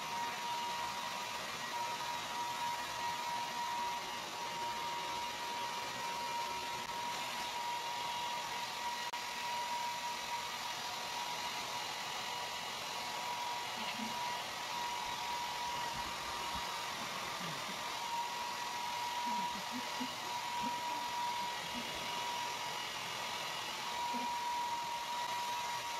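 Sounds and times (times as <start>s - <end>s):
hair dryer running: 0.0s - 25.9s.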